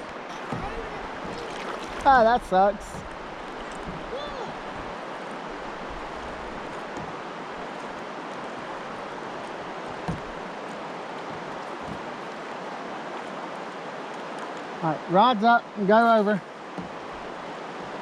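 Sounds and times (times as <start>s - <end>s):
river water rushing over rapids: 0.0s - 18.0s.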